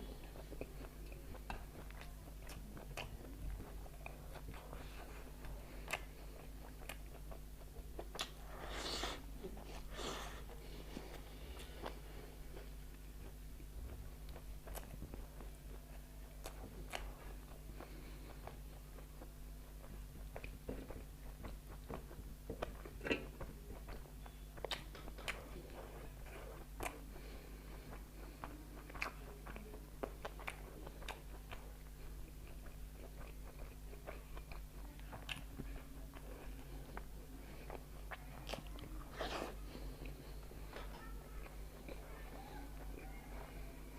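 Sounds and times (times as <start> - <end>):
faint electrical hum: 0.0 - 43.9
person chewing and crunching food: 0.0 - 43.9.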